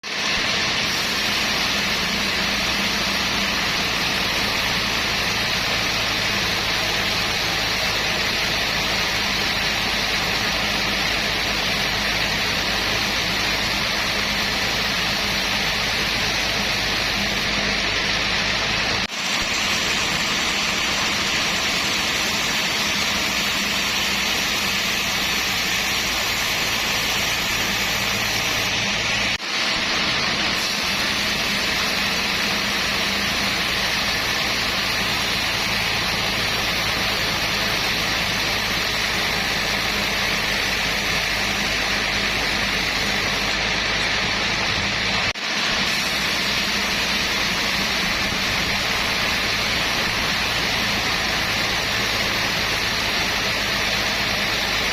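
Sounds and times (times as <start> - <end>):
sawmill machinery rushing noise: 0.0 - 54.9
low motor hum: 0.3 - 54.9.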